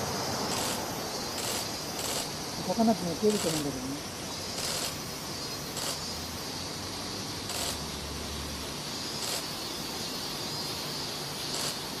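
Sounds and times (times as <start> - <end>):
insect rasping bursts: 0.0 - 12.0
insects buzzing: 0.0 - 12.0.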